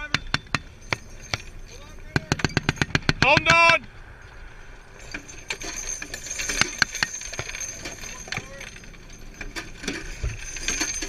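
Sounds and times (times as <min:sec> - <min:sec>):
brass cases clinking on metal: 0:00.0 - 0:03.5, 0:04.8 - 0:11.0.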